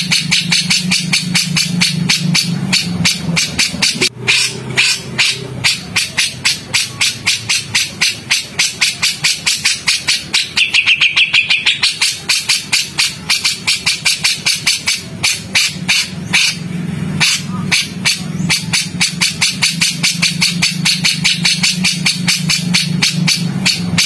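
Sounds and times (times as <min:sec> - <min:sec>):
songbird harsh sharp notes: 0:00.0 - 0:24.0.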